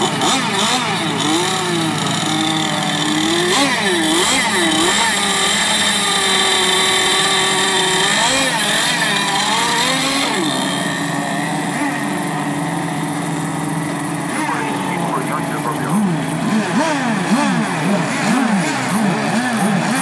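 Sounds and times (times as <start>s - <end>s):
small two-stroke boat engines revving: 0.0s - 14.3s, 16.1s - 20.0s.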